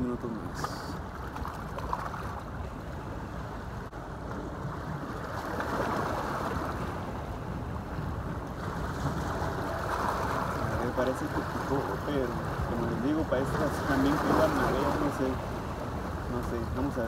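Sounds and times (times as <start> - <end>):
wind rumbling on microphone: 0.0 - 17.0
ocean water washing in: 0.4 - 17.0.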